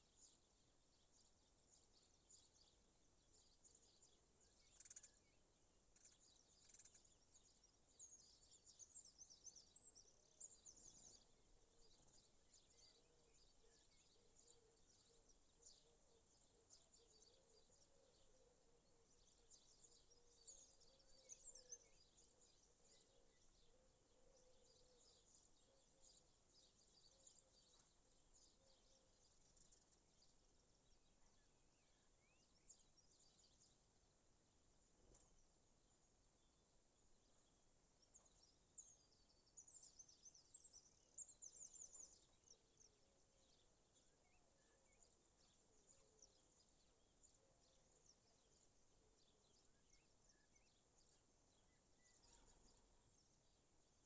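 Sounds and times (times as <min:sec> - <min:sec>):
distant birdsong chirps and trills: 0:00.0 - 0:54.0.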